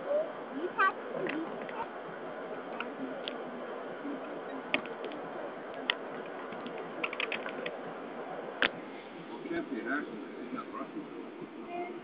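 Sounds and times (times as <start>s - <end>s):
road and rain noise: 0.0s - 12.0s.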